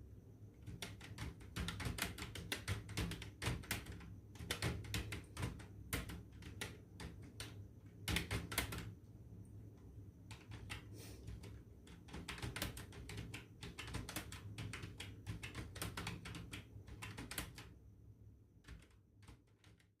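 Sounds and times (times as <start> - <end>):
low steady hum: 0.0 - 19.2
computer keyboard typing: 0.6 - 8.9, 10.2 - 17.8, 18.6 - 20.0.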